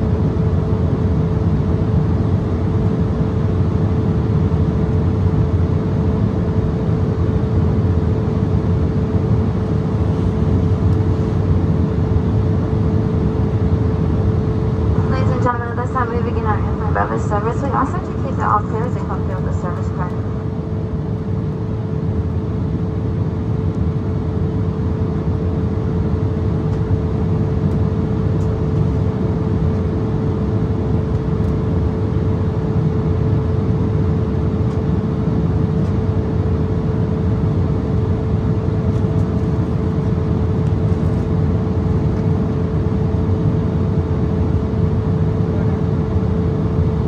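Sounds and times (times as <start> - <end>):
constant mid-pitched hum: 0.0 - 47.0
jet engine drone: 0.0 - 47.0.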